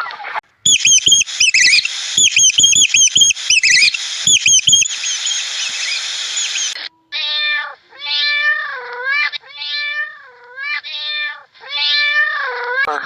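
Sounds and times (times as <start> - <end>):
animal meow-like calls: 0.0 - 12.9.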